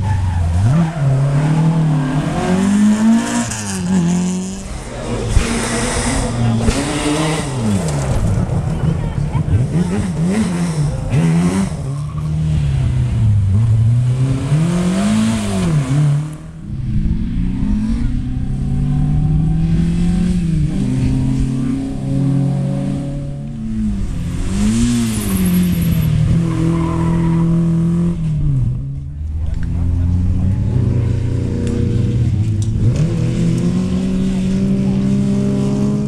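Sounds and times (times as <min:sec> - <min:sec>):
rally car engines revving past: 0:00.0 - 0:36.0.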